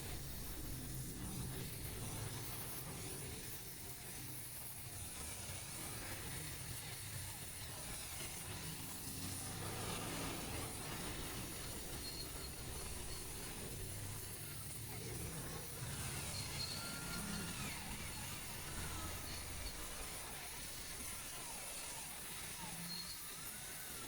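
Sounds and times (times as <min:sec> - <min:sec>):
welding torch hiss: 0:00.0 - 0:24.0.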